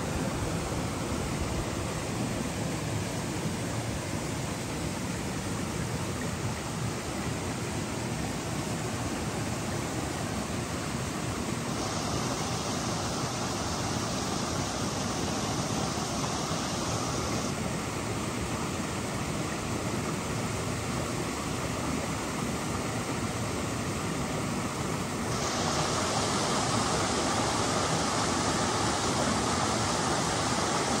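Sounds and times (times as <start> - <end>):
waterfall roaring: 0.0 - 31.0.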